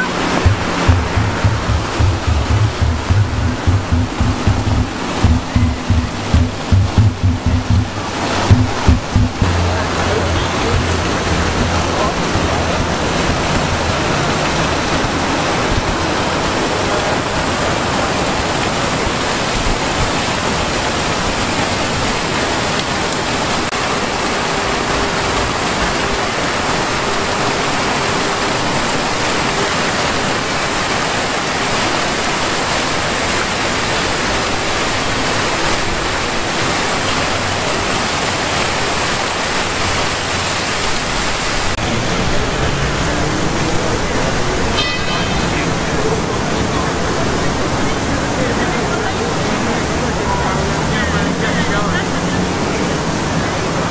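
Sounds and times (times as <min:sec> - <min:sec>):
fountain water splashing: 0:00.0 - 0:53.9.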